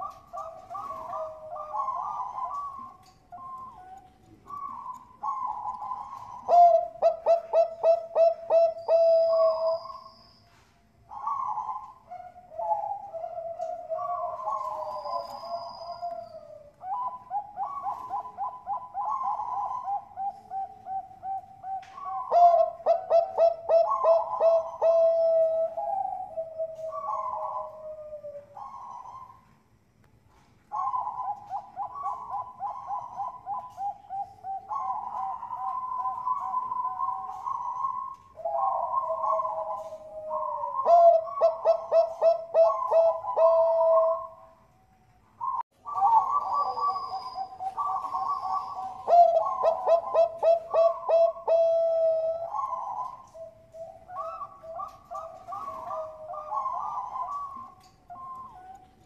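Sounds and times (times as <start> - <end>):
dove cooing: 0.0 - 29.7, 30.3 - 59.0.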